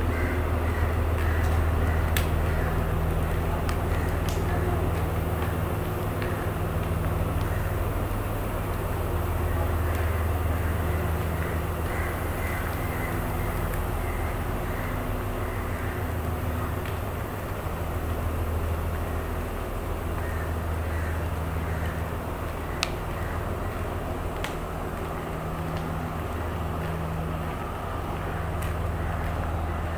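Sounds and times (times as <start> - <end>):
train engine idling: 0.0 - 29.9.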